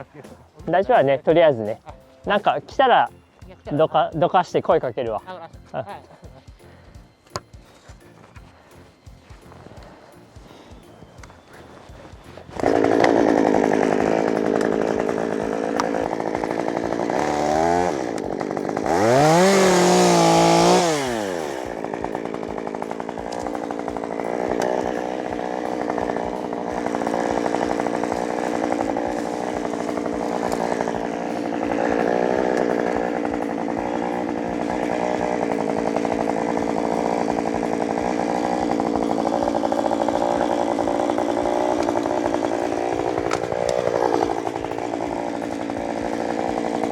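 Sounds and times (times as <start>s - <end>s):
chainsaw running and revving: 8.8s - 46.9s.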